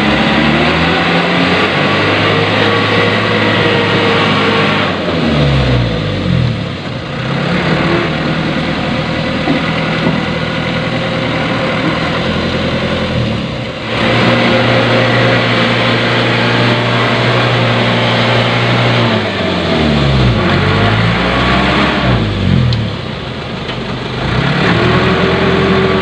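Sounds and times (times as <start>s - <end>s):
truck engine labouring: 0.0s - 26.0s.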